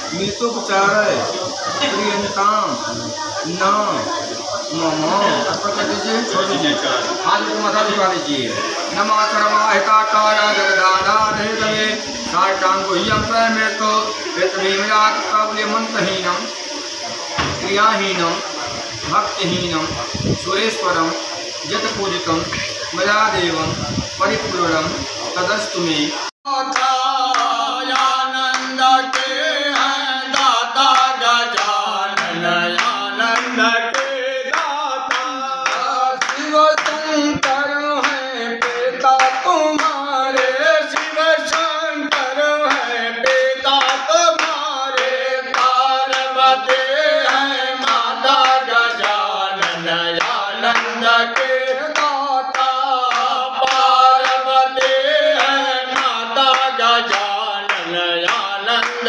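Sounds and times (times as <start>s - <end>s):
rhythmic hand clapping: 0.0s - 59.0s
voices singing a hymn: 0.0s - 59.0s.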